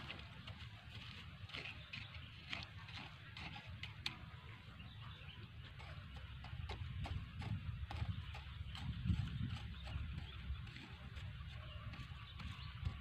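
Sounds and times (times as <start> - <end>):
hoe scraping dry soil: 0.0 - 13.0.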